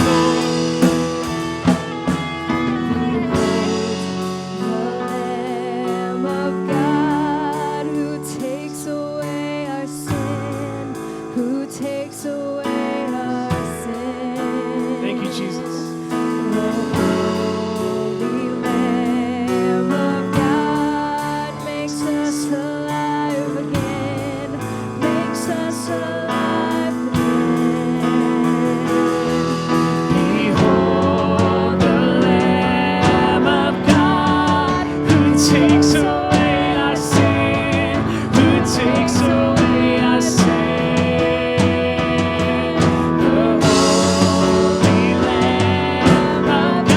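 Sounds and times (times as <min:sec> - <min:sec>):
live band playing: 0:00.0 - 0:46.9
person singing: 0:00.0 - 0:46.9.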